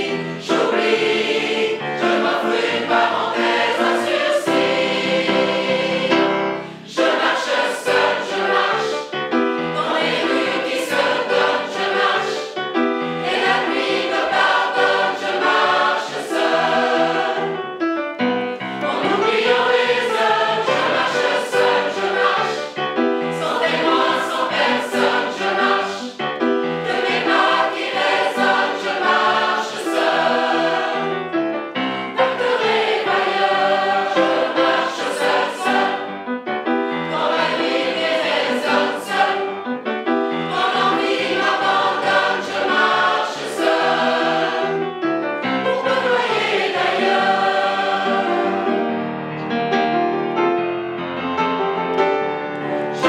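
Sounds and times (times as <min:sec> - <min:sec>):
mixed choir singing: 0:00.0 - 0:17.8, 0:18.5 - 0:49.1, 0:52.7 - 0:53.0.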